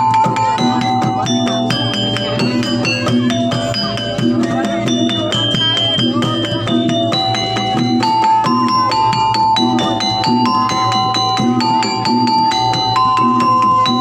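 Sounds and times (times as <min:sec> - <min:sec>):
gamelan music: 0:00.0 - 0:14.0.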